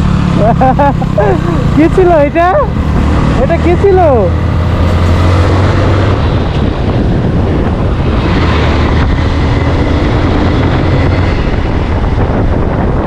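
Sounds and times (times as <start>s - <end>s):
motorcycle engine running: 0.0s - 13.0s
wind noise on microphone: 0.4s - 13.0s.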